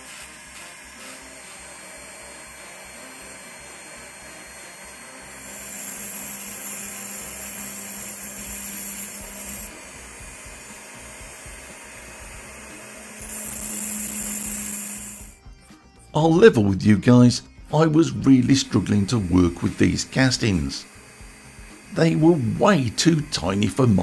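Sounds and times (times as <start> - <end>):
rotary tool grinding metal: 0.0 - 15.4, 18.3 - 24.0
cut-off disc hissing: 0.0 - 16.1, 17.8 - 24.0.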